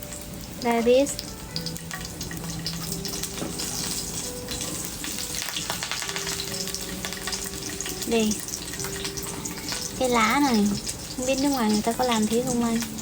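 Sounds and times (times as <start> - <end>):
food sizzling over wood fire: 0.0 - 13.0.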